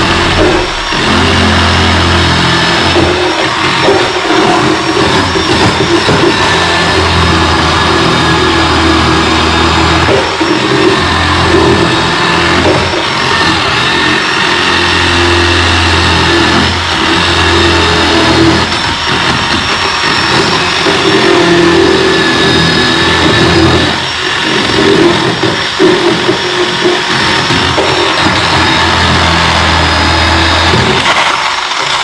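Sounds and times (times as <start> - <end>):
chainsaw cutting wood: 0.0 - 32.0.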